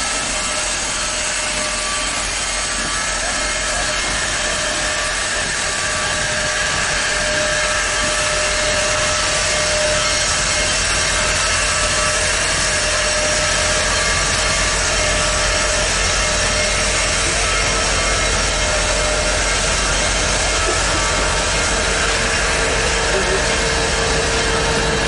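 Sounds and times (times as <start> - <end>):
steam hissing: 0.0 - 25.0
steam locomotive rolling past: 0.0 - 25.0.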